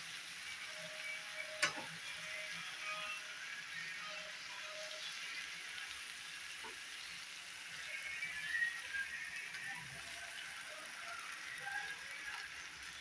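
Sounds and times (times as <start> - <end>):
soft background music: 0.0 - 13.0
vegetables sizzling in oil: 0.0 - 13.0.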